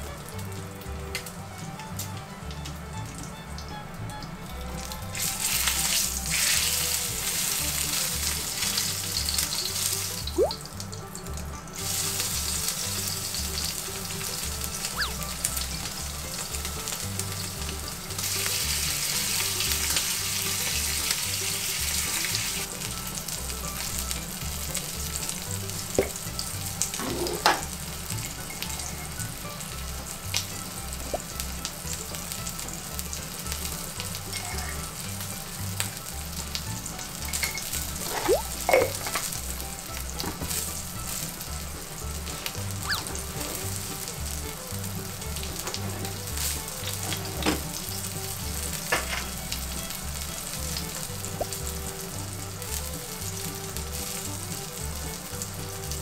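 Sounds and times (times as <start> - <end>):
meat sizzling in frying pan: 4.8 - 56.0.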